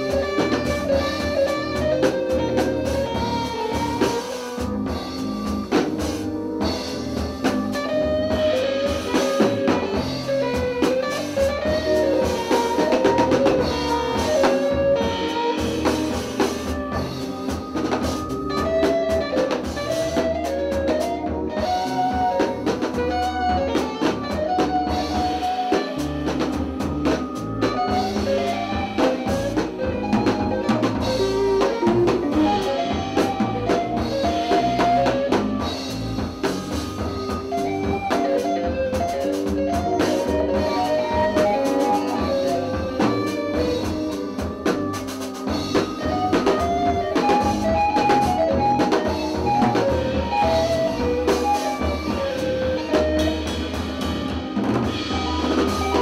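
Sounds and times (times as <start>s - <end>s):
jazz trio playing: 0.0s - 56.0s.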